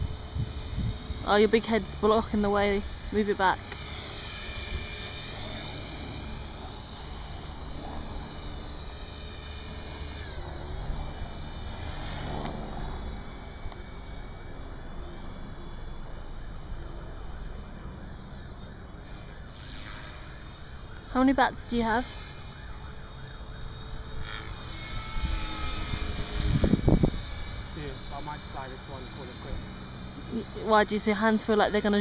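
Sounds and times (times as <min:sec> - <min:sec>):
rc helicopter whine: 0:00.0 - 0:32.0.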